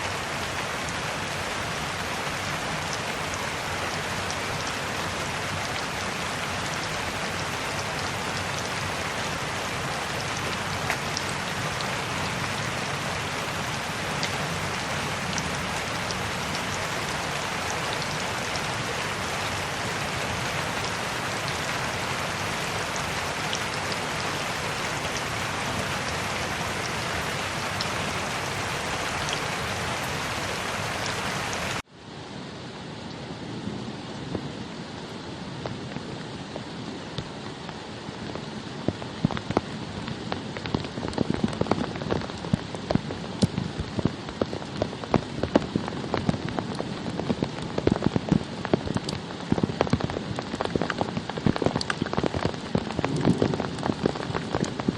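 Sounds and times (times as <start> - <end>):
dull rain-like noise: 0.0 - 54.9
steady rain falling: 0.0 - 54.9.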